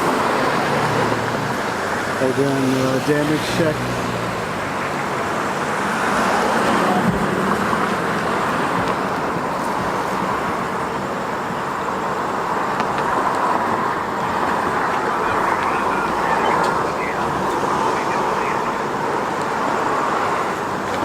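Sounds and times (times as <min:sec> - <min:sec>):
low engine hum: 0:00.0 - 0:21.0
passing cars rush: 0:00.0 - 0:21.0.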